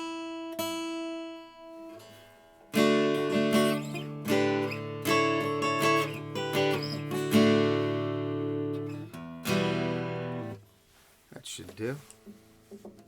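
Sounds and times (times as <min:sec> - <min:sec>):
picked guitar notes: 0:00.0 - 0:10.6
acoustic guitar strummed chords: 0:00.0 - 0:10.7.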